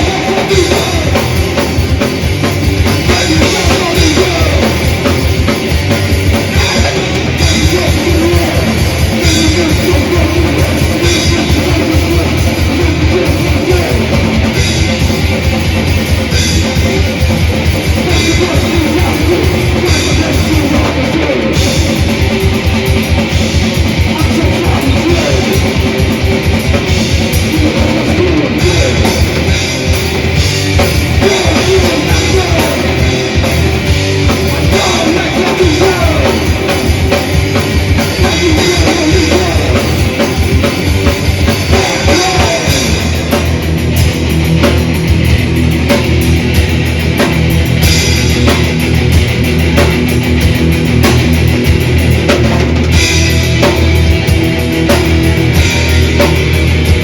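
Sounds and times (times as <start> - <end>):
distorted electric guitars: 0.0 - 57.0
fast dense drumming: 0.0 - 57.0.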